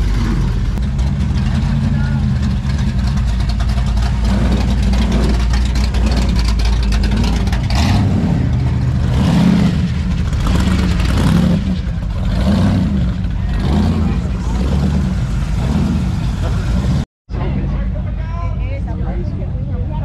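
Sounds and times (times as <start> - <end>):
car engines rumbling: 0.0 - 20.0.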